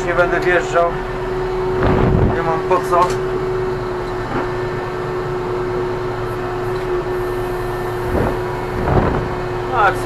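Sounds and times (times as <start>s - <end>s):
steady whining tone: 0.0s - 10.0s
tractor diesel engine running: 0.0s - 10.0s.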